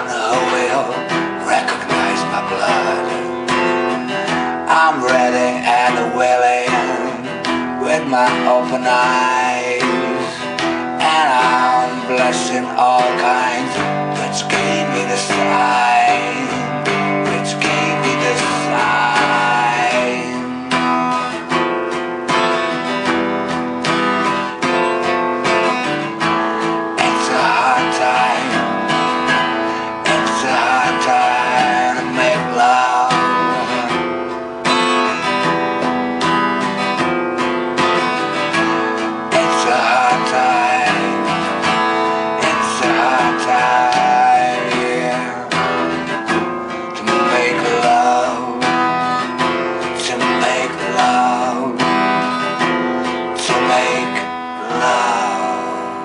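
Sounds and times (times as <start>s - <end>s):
rock guitar instrumental: 0.0s - 56.0s.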